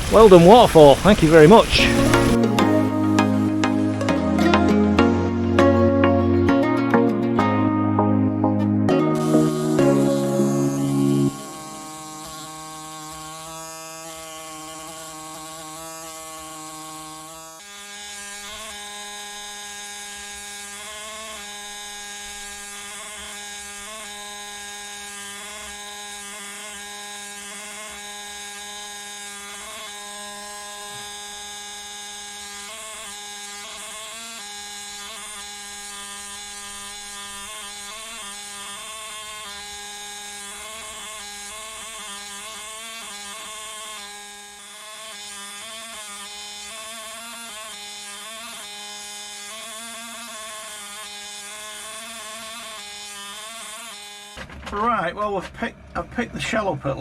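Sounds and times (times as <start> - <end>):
handheld power tool buzzing: 0.0 - 3.8, 9.0 - 54.6.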